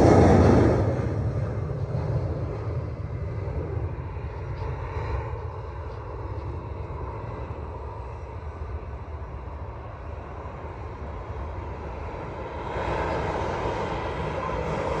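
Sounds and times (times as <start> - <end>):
jet engine roar at takeoff: 0.0 - 15.0.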